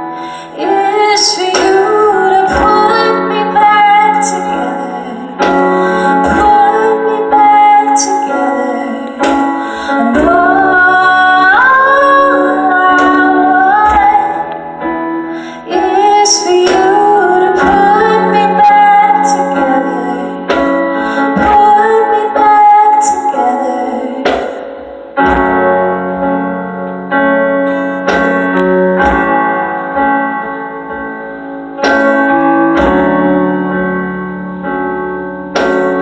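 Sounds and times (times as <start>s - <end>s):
live band with keyboard: 0.0s - 36.0s.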